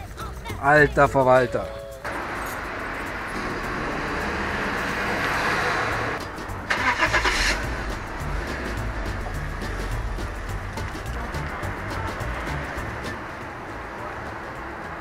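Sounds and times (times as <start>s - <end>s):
car engine starting and idling: 2.0s - 15.0s.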